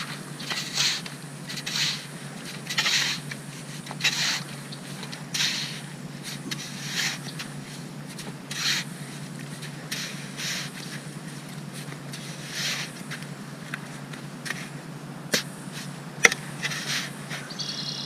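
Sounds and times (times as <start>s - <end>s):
shovel scraping wet sand: 0.0s - 13.4s, 14.4s - 17.5s.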